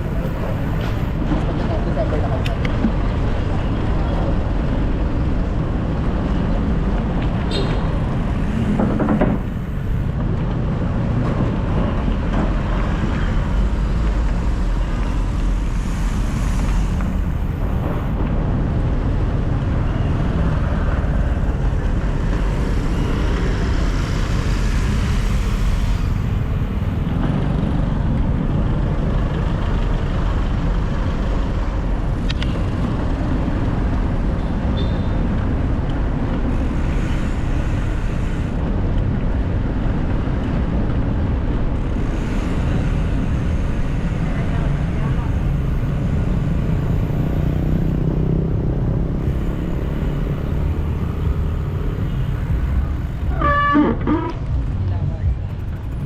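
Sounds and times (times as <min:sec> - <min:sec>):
constant low traffic rumble: 0:00.0 - 0:56.0
passing cars and motorcycles: 0:00.0 - 0:56.0.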